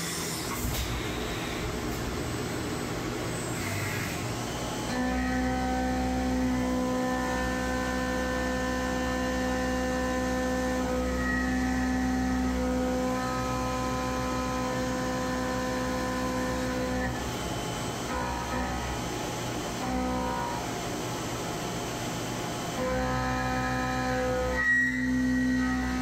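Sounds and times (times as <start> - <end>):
milling machine cutting whine: 0.0 - 26.0
low converter hum: 0.6 - 24.5.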